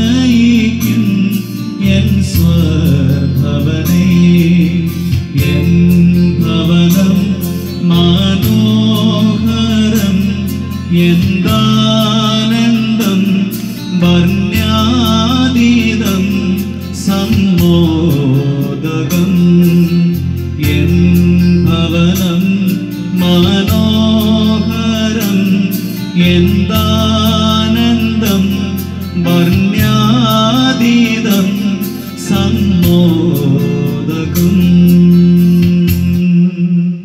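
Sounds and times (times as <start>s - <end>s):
electronic keyboard with rhythm track: 0.0s - 37.0s
man singing into a microphone: 0.0s - 37.0s.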